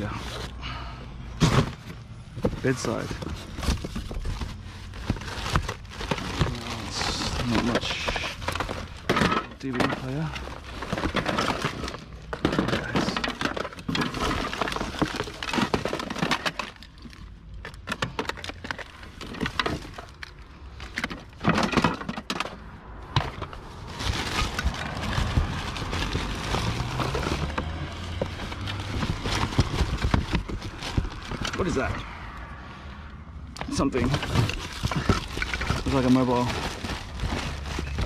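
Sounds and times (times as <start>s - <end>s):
rubbish rustling and clattering: 0.0s - 32.6s, 33.4s - 38.0s.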